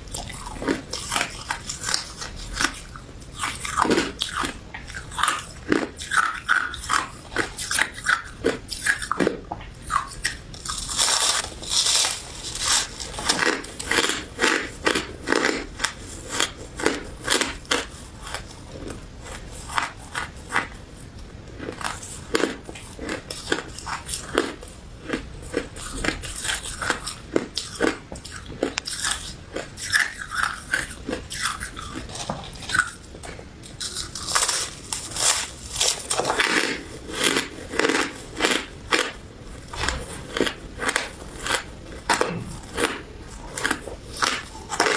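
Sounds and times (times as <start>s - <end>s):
crunchy ice being chewed: 0.1s - 44.9s.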